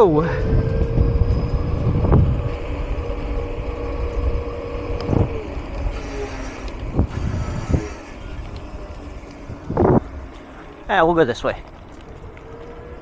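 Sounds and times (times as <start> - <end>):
electric motor whine: 0.0 - 13.0
wind buffeting microphone: 0.0 - 13.0.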